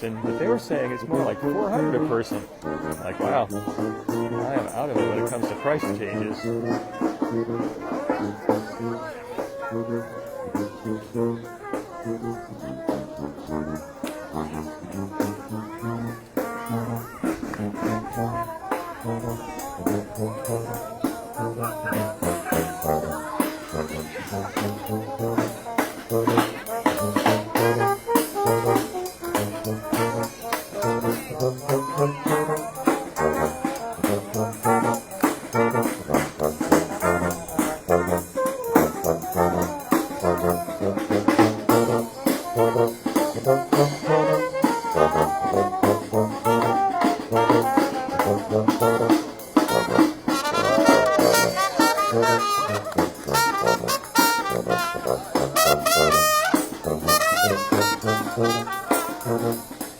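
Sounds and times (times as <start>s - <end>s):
brass band playing jazzy tune: 0.0s - 59.9s.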